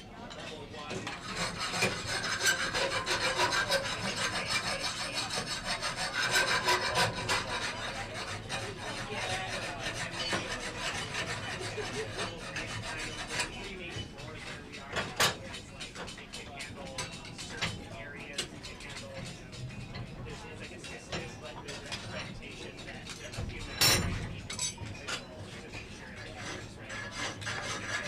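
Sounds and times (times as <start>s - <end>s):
scraping on steel workpiece: 0.3s - 28.0s.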